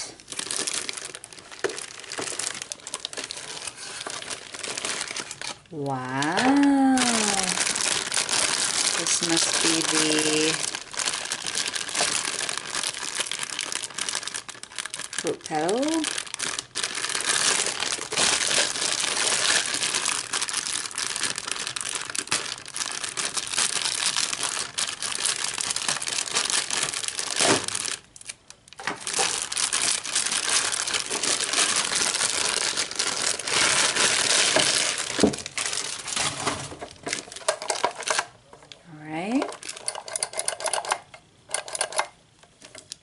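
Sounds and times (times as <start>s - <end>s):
plastic bag crinkling: 0.0s - 43.0s.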